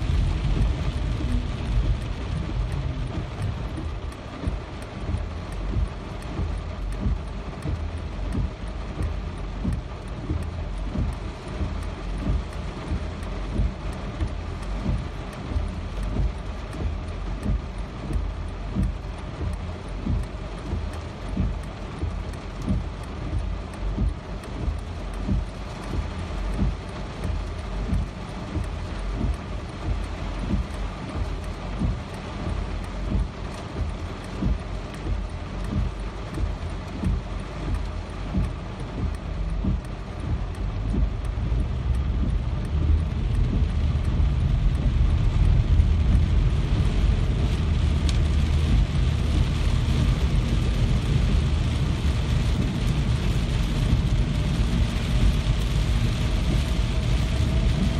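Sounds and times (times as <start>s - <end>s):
deep low rumble: 0.0s - 57.9s
steady rain: 0.0s - 57.9s.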